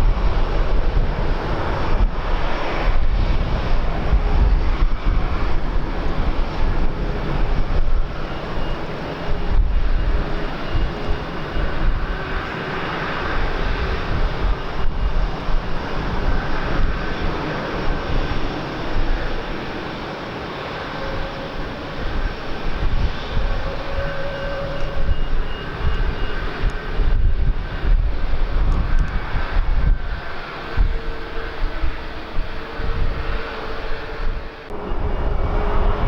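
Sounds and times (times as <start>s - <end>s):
airliner engines running: 0.0s - 36.0s
wind buffeting microphone: 0.0s - 36.0s.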